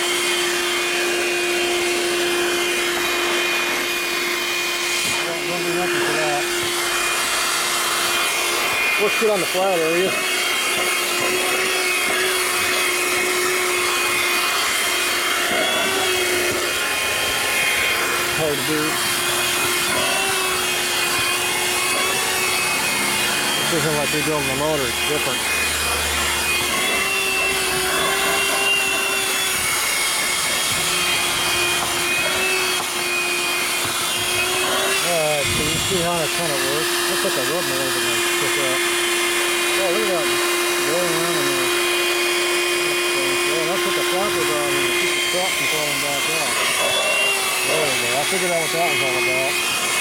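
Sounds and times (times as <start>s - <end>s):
handheld vacuum cleaner running: 0.0s - 50.0s.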